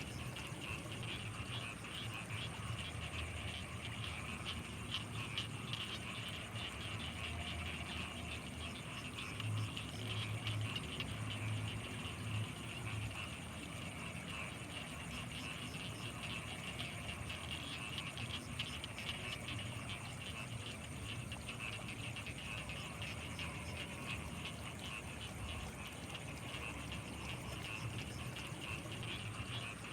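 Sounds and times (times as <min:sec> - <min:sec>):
frogs chirping: 0:00.0 - 0:29.9
high-pitched insect whine: 0:00.0 - 0:29.9.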